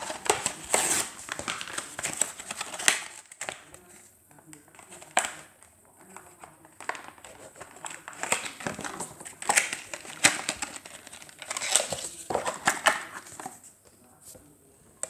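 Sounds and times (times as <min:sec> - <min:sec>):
plastic packaging crinkling: 0:00.0 - 0:04.0, 0:04.6 - 0:13.7.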